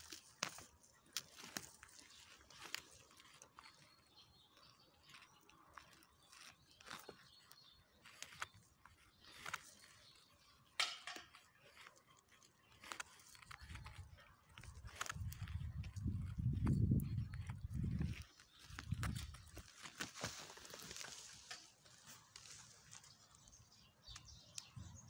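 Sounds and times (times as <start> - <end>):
dry grass crackling and rustling: 0.0 - 24.3.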